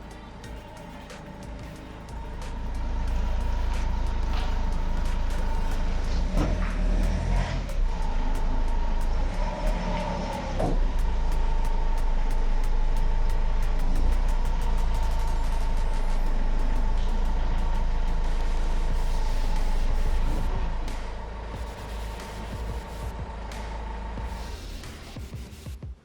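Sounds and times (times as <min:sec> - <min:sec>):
car lift motor humming: 0:00.0 - 0:25.2.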